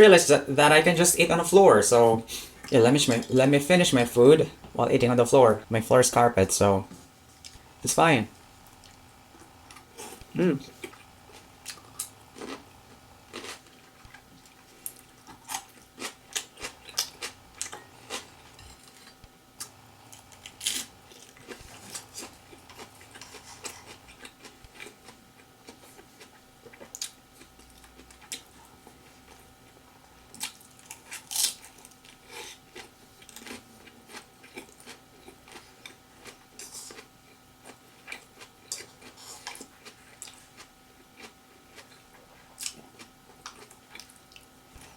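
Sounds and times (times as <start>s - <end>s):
crunchy chewing: 8.7s - 44.9s.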